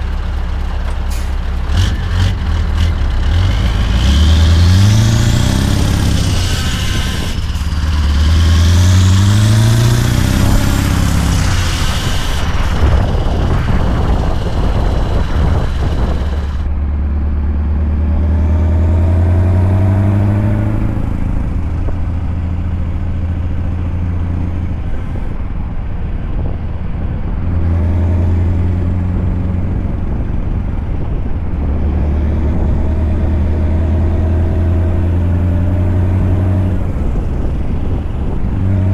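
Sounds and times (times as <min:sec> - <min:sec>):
truck engine pulling under load: 0:00.0 - 0:38.9.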